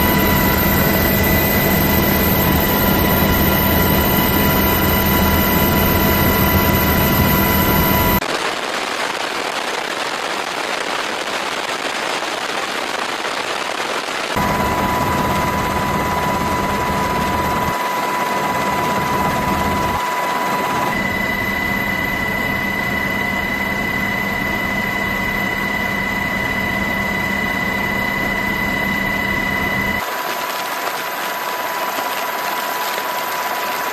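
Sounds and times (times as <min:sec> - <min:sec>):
aircraft turbine engine running: 0:00.0 - 0:08.2, 0:14.4 - 0:33.9.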